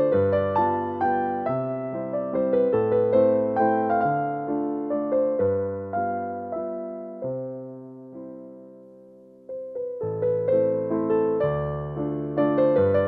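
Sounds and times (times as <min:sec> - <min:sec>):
slow solo piano melody: 0:00.0 - 0:13.0.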